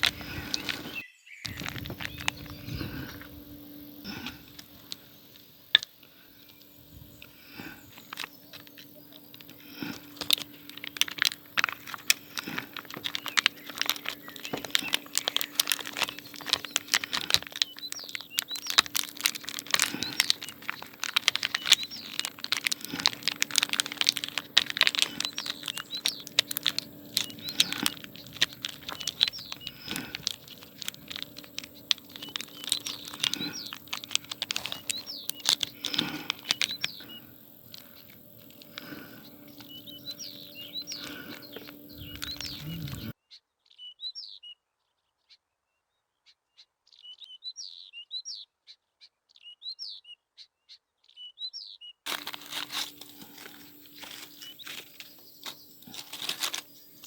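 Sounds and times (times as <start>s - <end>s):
bird chirps: 0.0s - 11.5s, 12.8s - 43.1s, 51.1s - 57.0s
crackling and crinkling: 0.0s - 43.2s, 52.1s - 57.0s.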